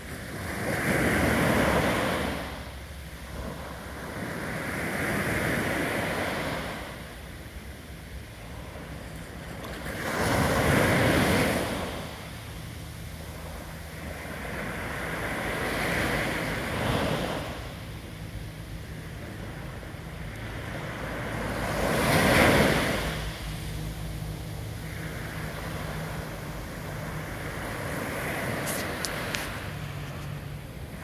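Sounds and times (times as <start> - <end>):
low steady hum: 0.0 - 31.0
small waves breaking on beach: 0.0 - 31.0.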